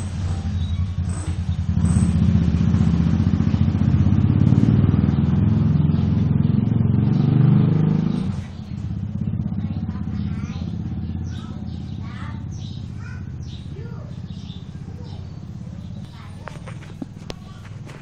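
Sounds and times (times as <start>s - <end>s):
engine running with low throb: 0.0s - 18.0s.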